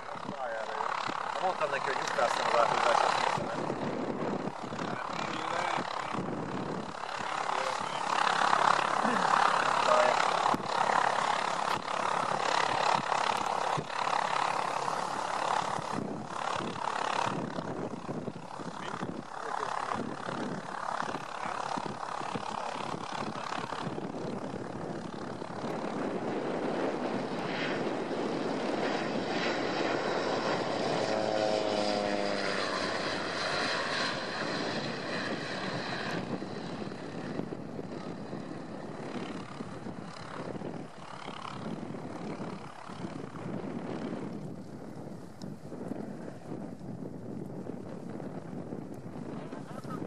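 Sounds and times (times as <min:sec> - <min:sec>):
propeller plane flying past: 0:00.0 - 0:50.0.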